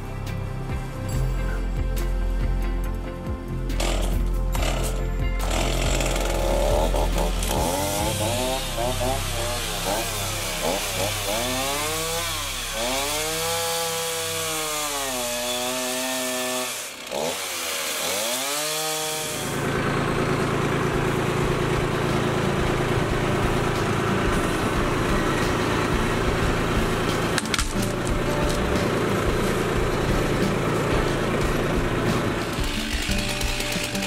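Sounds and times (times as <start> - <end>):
chainsaw revving: 3.8 - 34.0.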